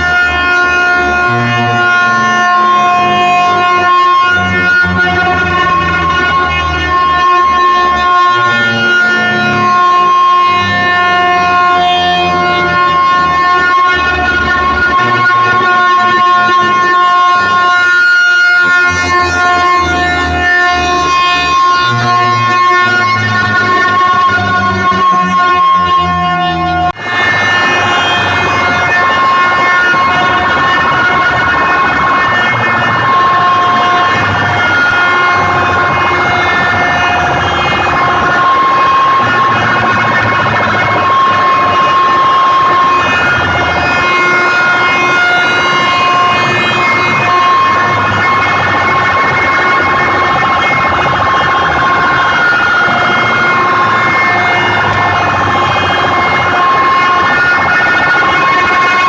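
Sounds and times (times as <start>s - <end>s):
distorted siren-like tones: 0.0s - 59.0s
pulsing bass: 0.0s - 59.0s.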